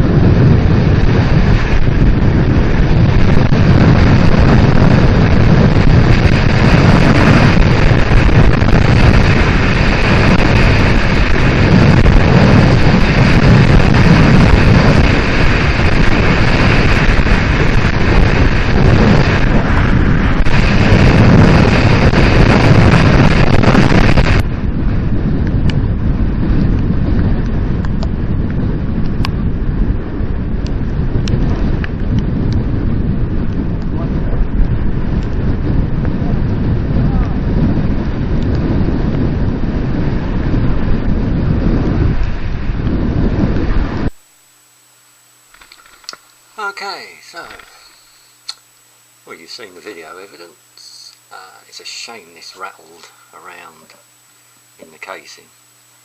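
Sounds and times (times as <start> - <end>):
wind buffeting microphone: 0.0 - 50.1.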